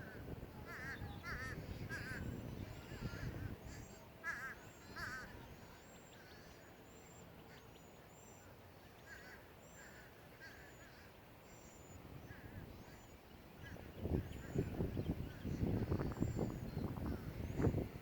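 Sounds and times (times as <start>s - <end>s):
faint bird calls: 0.0s - 18.0s.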